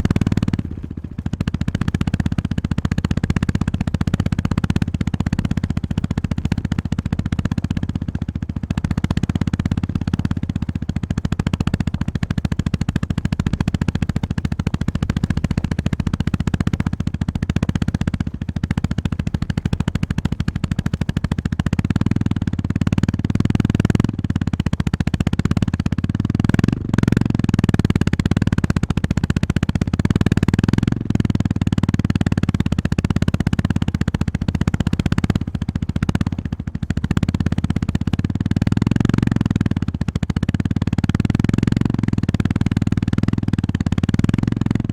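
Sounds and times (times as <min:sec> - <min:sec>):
motorcycle engine thumping: 0:00.0 - 0:44.9.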